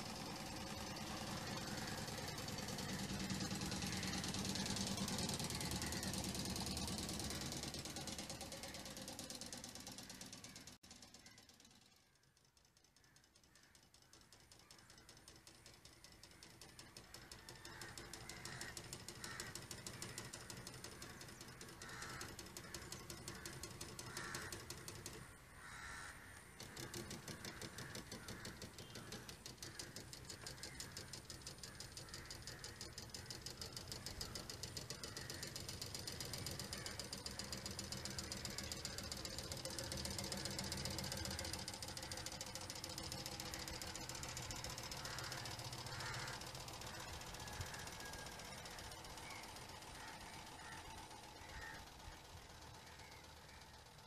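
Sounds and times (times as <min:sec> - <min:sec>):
electric motor driving propeller buzz: 0:00.0 - 0:12.2, 0:13.5 - 0:54.0.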